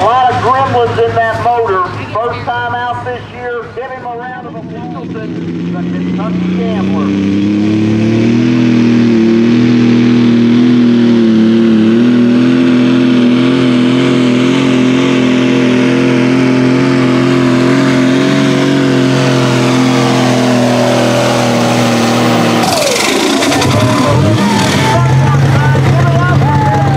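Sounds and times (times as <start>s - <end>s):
tractor engine running flat out: 0.0s - 26.9s.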